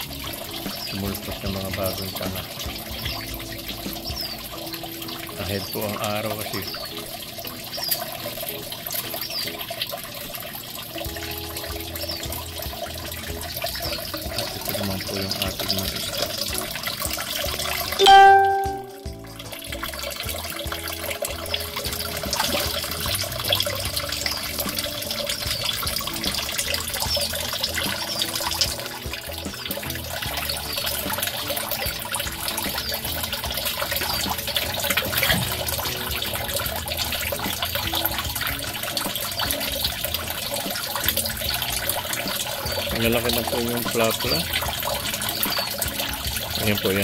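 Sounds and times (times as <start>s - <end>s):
background music: 0.0s - 47.0s
running splashing water: 0.0s - 47.0s.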